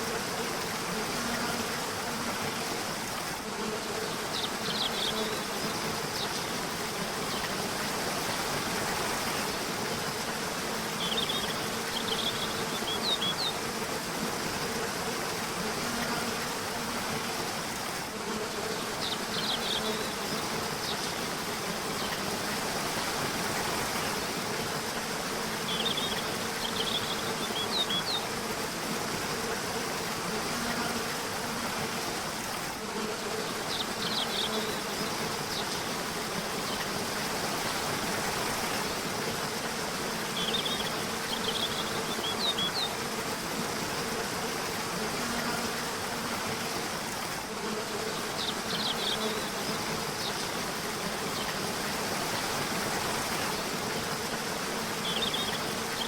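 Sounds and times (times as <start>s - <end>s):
river running: 0.0s - 56.0s.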